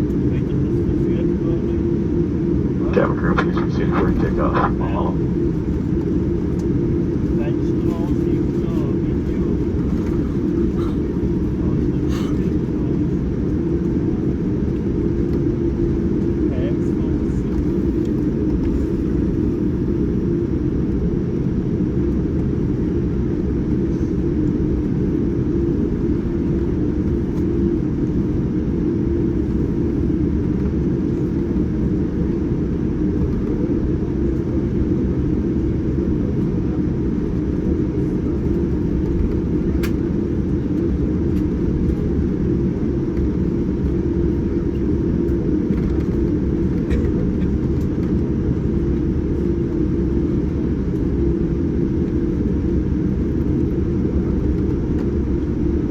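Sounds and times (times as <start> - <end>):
airliner cabin rumble: 0.0 - 55.9.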